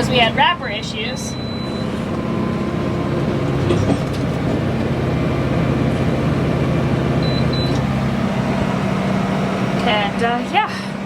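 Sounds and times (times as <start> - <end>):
round baler running: 0.0 - 11.0
tractor engine running: 0.0 - 11.0.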